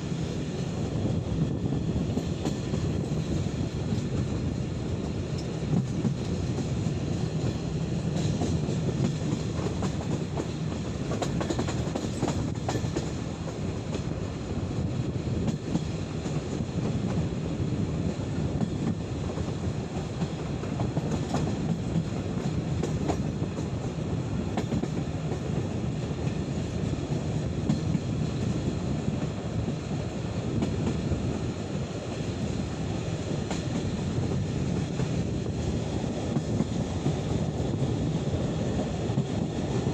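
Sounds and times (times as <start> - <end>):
rail joint clicks: 0.0 - 39.9
train wheels rumbling on rail: 0.0 - 39.9.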